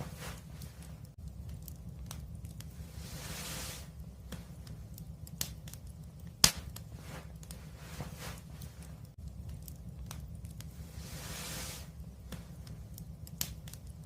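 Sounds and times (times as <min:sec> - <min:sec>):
fire hissing: 0:00.0 - 0:14.0
wood fire crackling: 0:00.0 - 0:14.0.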